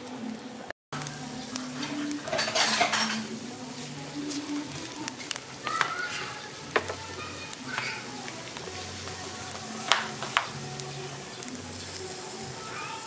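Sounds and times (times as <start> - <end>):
juices popping and crackling: 0.0 - 13.0
snails sizzling on a grill: 0.0 - 13.0.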